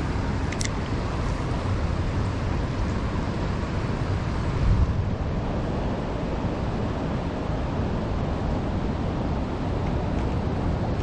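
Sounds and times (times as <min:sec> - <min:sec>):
river current rushing: 0:00.0 - 0:11.0
wind buffeting microphone: 0:00.0 - 0:11.0.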